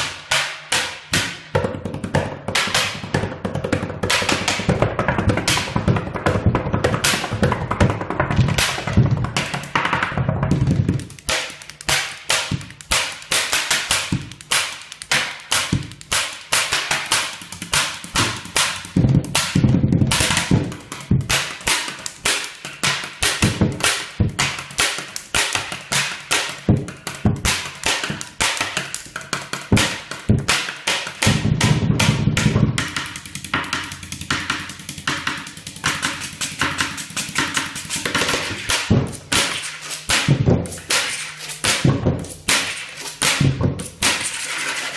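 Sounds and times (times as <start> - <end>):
pens tapping a beat: 0.0 - 44.9.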